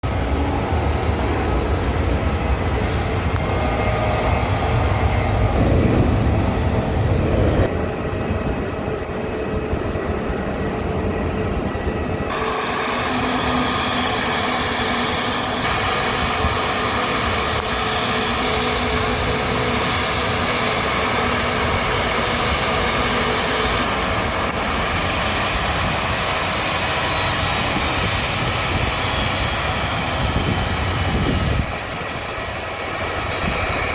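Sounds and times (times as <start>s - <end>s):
jet engines whining: 0.0s - 33.9s.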